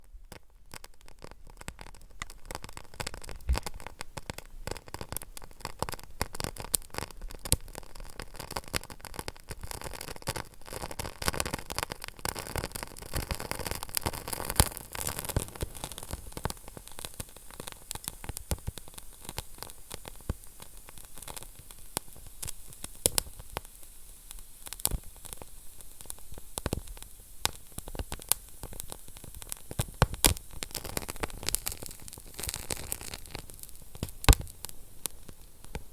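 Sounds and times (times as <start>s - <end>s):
fire crackling and popping: 0.0s - 35.9s
fire hissing: 2.2s - 8.9s, 12.2s - 35.9s.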